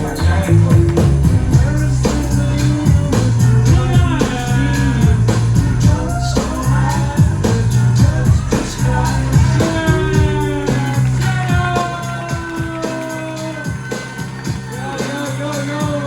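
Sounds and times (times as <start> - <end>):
music with heavy bass and beat: 0.0 - 16.0.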